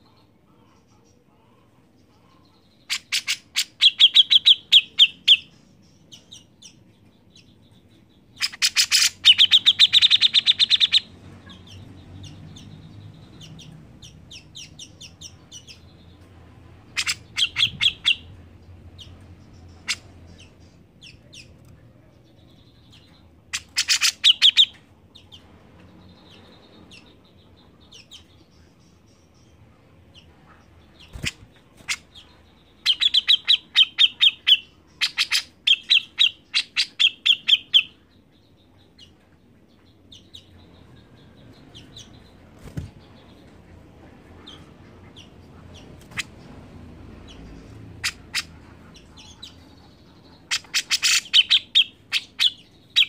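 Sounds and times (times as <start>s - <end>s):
bulbul singing: 2.2s - 53.0s.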